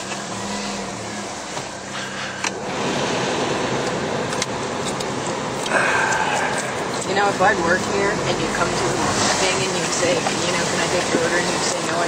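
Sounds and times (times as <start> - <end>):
car engine hum from cabin: 0.0 - 12.0.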